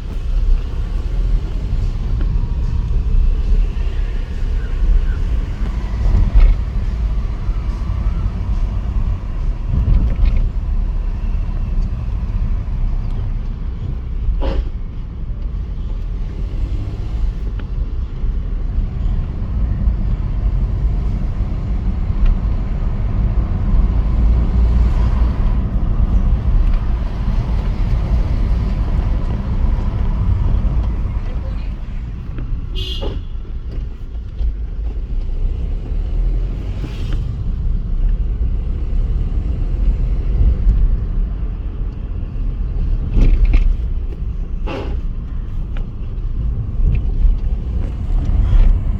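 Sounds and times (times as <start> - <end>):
diesel car engine rumbling: 0.0 - 48.9.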